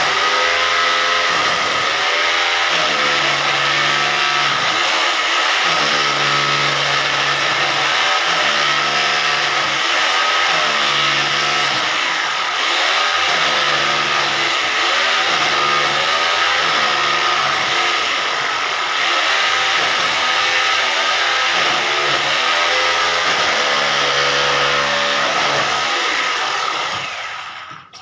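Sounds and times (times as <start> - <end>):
electric hammer drill cutting: 0.0 - 28.0.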